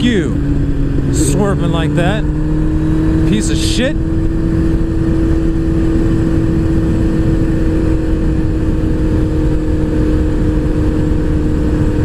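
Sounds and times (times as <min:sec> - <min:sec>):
motorcycle engine droning: 0:00.0 - 0:12.0
road rumble: 0:00.0 - 0:12.0
wind on microphone: 0:00.0 - 0:12.0.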